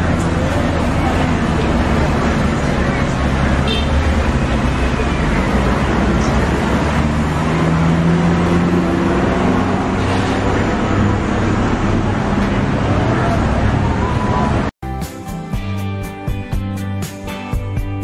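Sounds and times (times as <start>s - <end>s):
vehicle engine humming: 0.0s - 14.7s
road noise: 0.0s - 14.8s.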